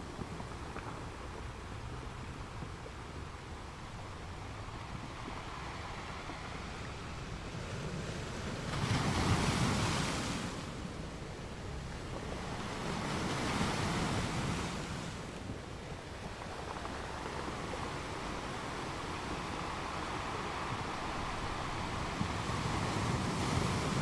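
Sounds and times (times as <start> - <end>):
ocean waves washing on beach: 0.0 - 24.0
steady surf wash: 0.0 - 24.0.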